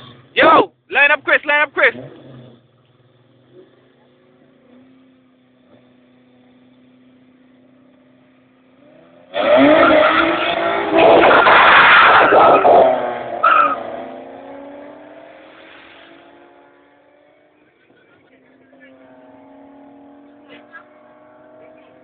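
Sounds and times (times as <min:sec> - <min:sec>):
car engines revving hard: 0:01.2 - 0:22.0.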